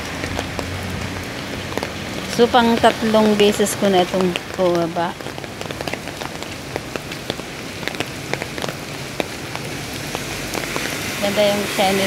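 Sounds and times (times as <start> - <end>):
rain drops tapping on umbrella: 0.0 - 12.0
steady hiss of rain: 0.0 - 12.0.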